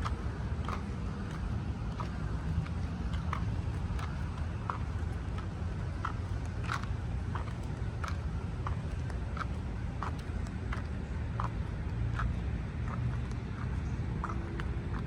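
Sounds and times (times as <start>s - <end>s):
footsteps on path: 0.0s - 15.0s
steady low rumble: 0.0s - 15.0s.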